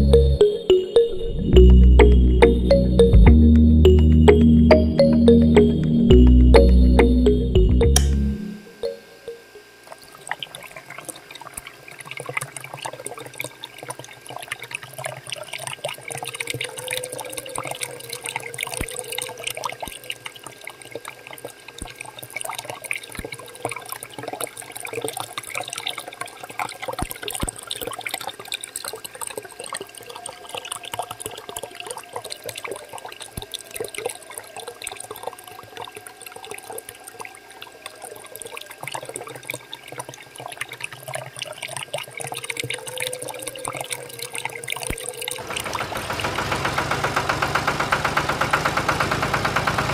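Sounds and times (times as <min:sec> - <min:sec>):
water splashing into pool: 0:09.9 - 0:49.9.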